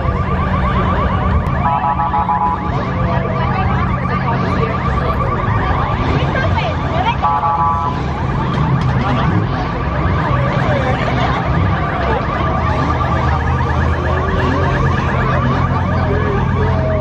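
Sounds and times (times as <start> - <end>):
steady beeping tones: 0.0 - 17.0.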